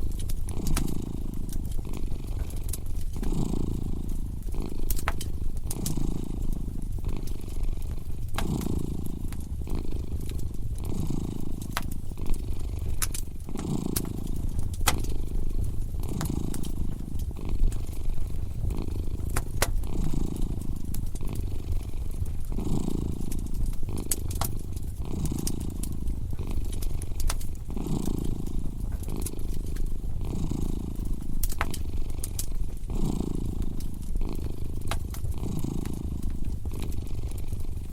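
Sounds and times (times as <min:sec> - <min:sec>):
cat purring: 0:00.0 - 0:37.9
wood fire crackling: 0:00.0 - 0:37.9.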